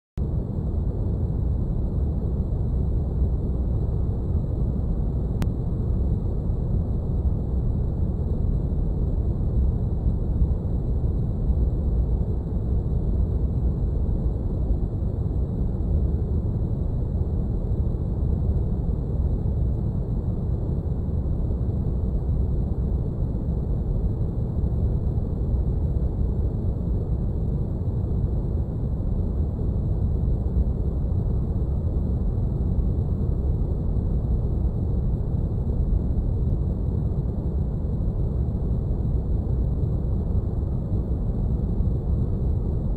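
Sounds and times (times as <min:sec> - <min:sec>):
low rumbling hum: 0:00.2 - 0:42.9.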